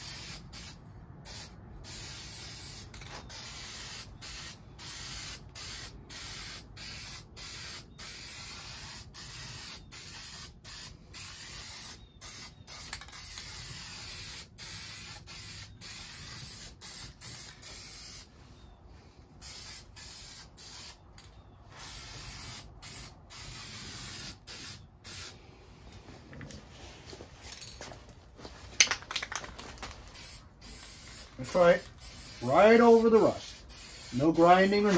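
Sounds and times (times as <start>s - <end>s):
spray can hissing: 0.0s - 18.3s, 19.4s - 21.0s, 21.8s - 25.4s, 30.1s - 34.9s.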